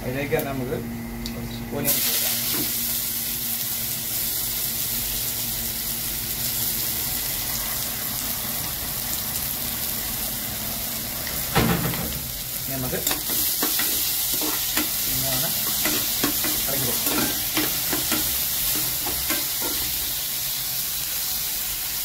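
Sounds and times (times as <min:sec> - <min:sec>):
onions sizzling in hot oil: 0:01.9 - 0:22.0.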